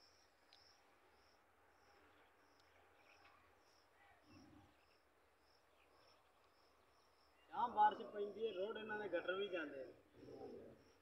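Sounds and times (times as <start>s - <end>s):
faint cricket chirps: 0.0s - 11.0s.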